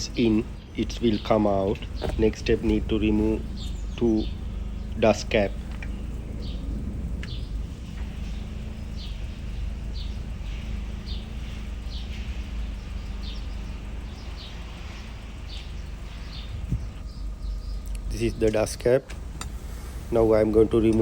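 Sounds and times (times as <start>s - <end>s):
low background hum: 0.0s - 21.0s
small bird chirping: 0.0s - 21.0s.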